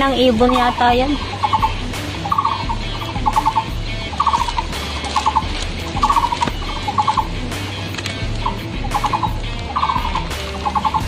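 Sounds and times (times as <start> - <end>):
bird calling in clipped notes: 0.5 - 11.0.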